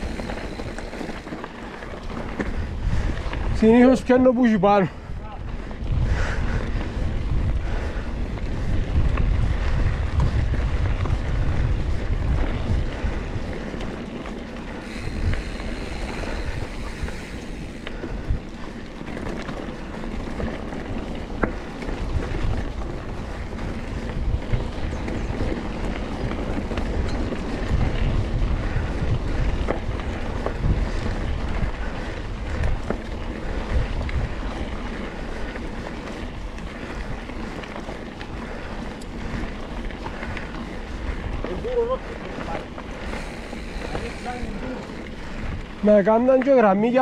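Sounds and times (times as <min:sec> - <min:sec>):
bike rattles and clicks: 0:00.0 - 0:47.0
bike rumbling down rough trail: 0:00.0 - 0:47.0
wind buffeting microphone: 0:00.0 - 0:47.0.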